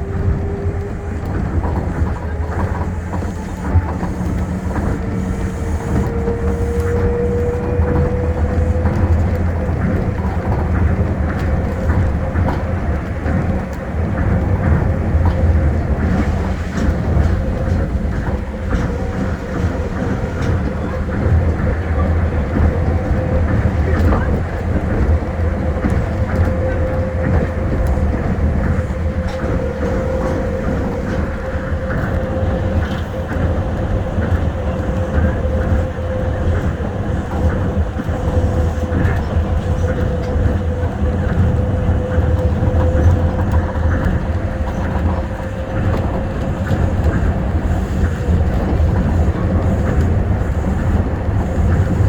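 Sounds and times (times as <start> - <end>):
monorail train rumbling and whining: 0.0 - 52.0.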